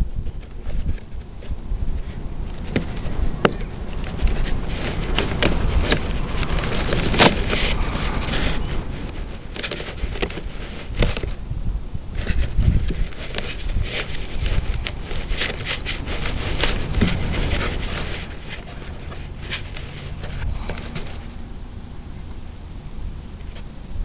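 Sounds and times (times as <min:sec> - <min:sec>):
sharp clicks and crackles: 0:00.0 - 0:11.4, 0:12.2 - 0:21.3
wind buffeting microphone: 0:00.0 - 0:24.0.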